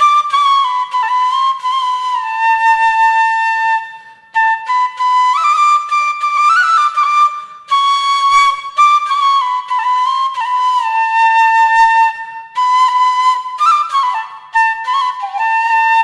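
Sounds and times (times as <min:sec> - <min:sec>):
solo flute slow melody: 0:00.0 - 0:16.0.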